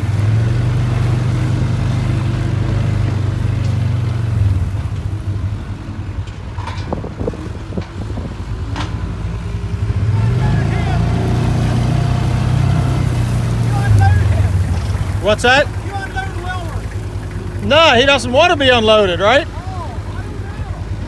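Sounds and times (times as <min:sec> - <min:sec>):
knocks and clatters: 0:00.0 - 0:10.1, 0:11.0 - 0:21.0
tractor engine running: 0:00.0 - 0:21.0.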